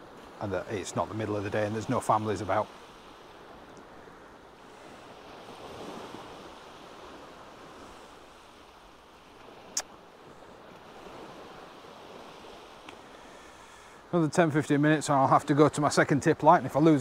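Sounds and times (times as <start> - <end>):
sea waves washing on beach: 0.0 - 17.0.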